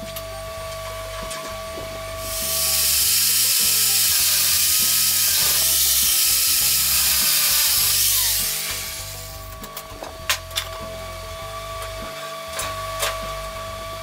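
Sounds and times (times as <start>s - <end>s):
angle grinder grinding steel: 0.0s - 14.0s.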